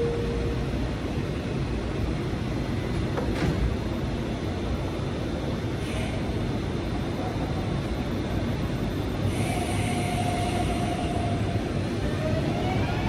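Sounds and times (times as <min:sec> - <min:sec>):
train equipment humming: 0:00.0 - 0:13.0.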